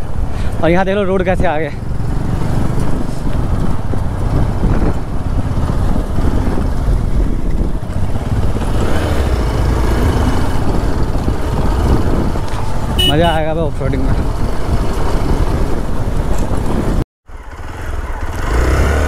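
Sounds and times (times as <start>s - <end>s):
wind and road noise: 0.0s - 19.0s
motorcycle engine running: 1.6s - 18.4s.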